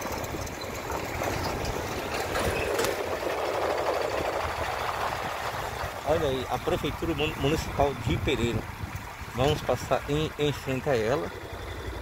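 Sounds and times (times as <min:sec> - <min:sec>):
rush of travel noise: 0:00.0 - 0:12.0
vehicle engine running: 0:00.0 - 0:12.0.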